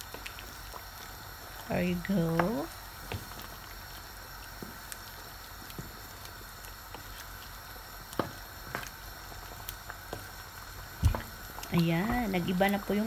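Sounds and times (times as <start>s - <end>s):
curry simmering with bubbling hiss: 0.0s - 13.0s.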